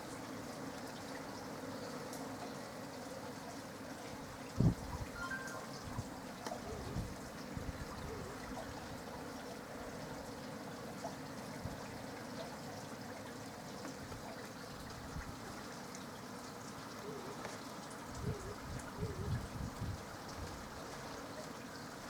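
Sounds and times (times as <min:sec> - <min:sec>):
rainwater trickling and dripping: 0:00.0 - 0:22.0.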